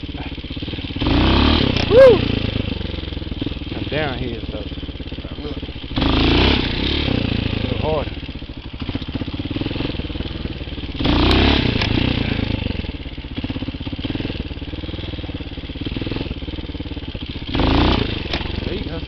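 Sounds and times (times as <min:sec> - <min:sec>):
dirt bike engine chugging and revving: 0:00.0 - 0:19.0.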